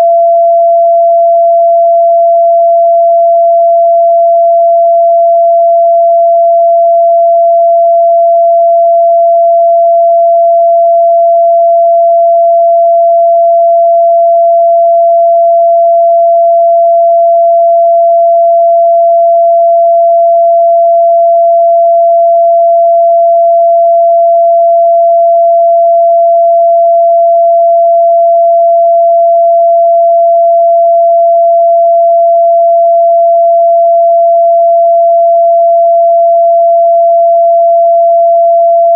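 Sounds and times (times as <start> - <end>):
pure sine test tone: 0.0 - 38.9.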